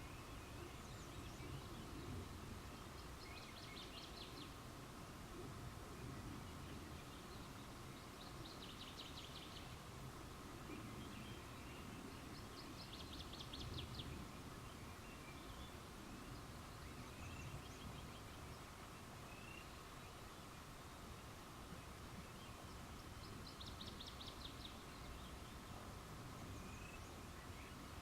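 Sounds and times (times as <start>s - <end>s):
low background noise: 0.0s - 28.0s.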